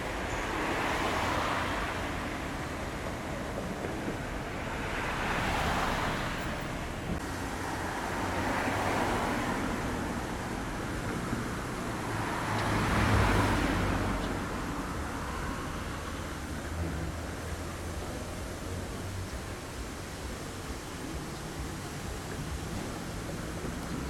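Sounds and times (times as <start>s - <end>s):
road traffic hiss: 0.0s - 24.0s.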